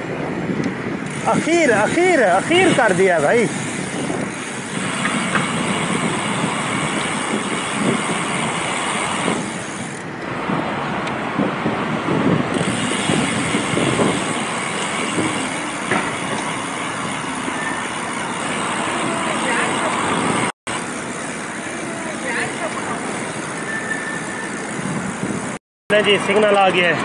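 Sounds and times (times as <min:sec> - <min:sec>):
bicycle road noise: 0:00.0 - 0:27.0
wind rush while cycling: 0:00.0 - 0:27.0.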